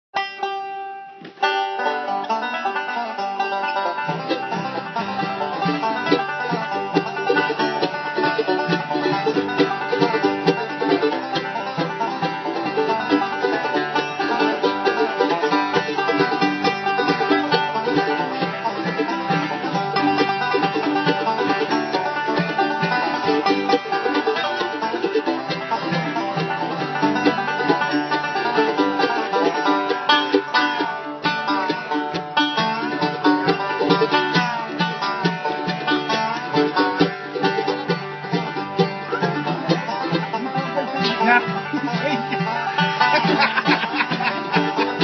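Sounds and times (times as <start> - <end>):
banjo picking: 0.2 - 45.0.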